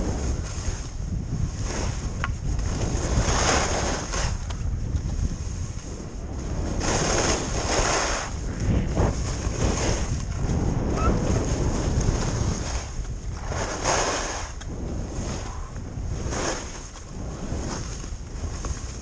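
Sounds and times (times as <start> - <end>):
skis carving on packed snow: 0.0 - 19.0
wind rushing over microphone: 0.0 - 19.0.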